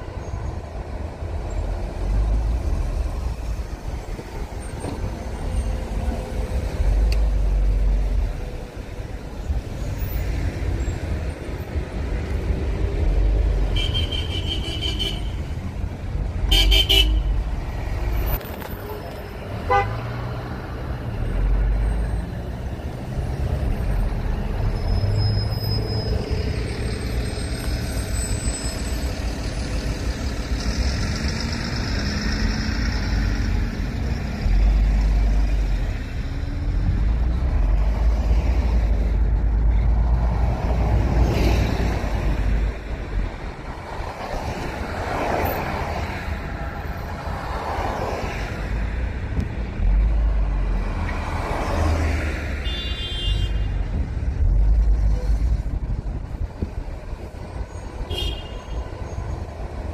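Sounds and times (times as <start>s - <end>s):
traffic rumble: 0.0s - 59.9s
vehicles passing: 0.0s - 59.9s.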